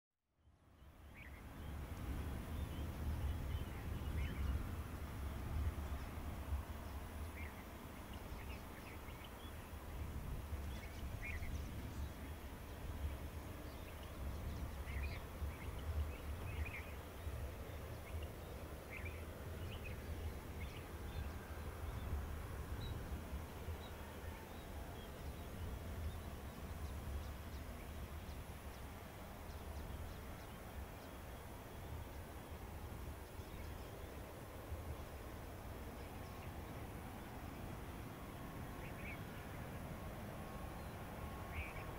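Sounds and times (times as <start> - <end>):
steady low rumble: 0.6 - 41.9.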